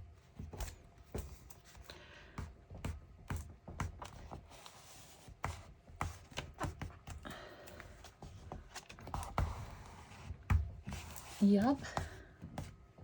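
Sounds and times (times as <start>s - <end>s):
paper pages tapping and knocking: 0.3s - 13.0s.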